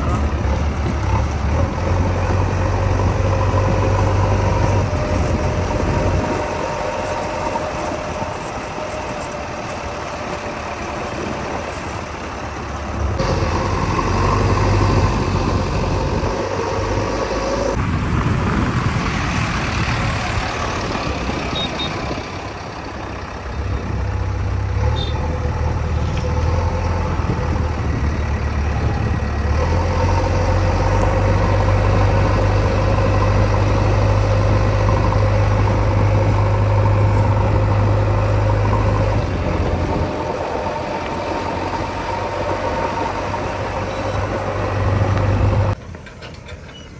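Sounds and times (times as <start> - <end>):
diesel engines running: 0.0 - 46.9.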